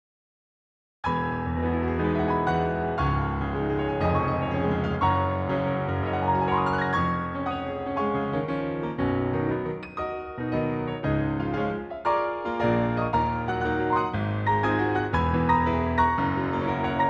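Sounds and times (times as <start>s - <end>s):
slow piano ballad: 1.1s - 17.0s.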